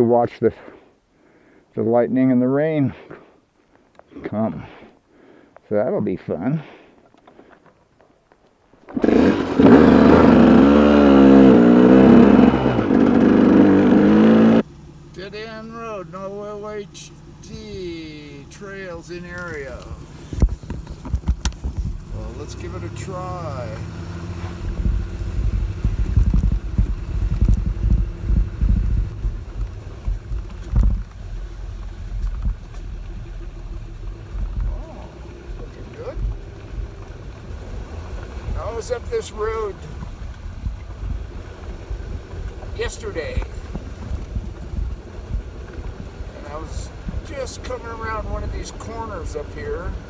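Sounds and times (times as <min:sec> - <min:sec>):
pickup truck engine running: 0:08.9 - 0:50.0.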